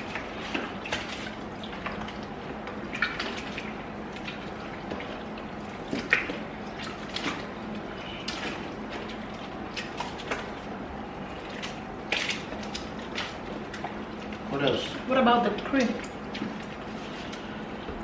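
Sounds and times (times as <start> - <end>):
slime squelching by hand: 0.0 - 17.9.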